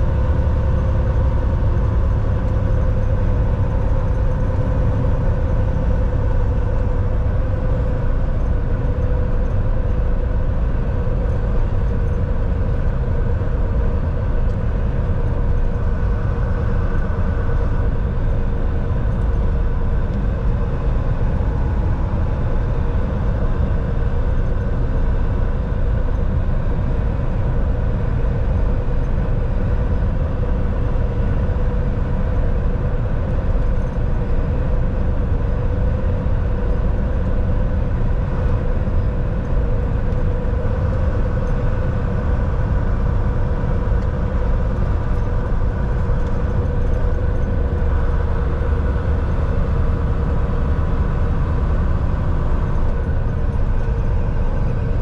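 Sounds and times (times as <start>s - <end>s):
road rumble: 0.0s - 55.0s
truck engine drone from cab: 0.0s - 55.0s.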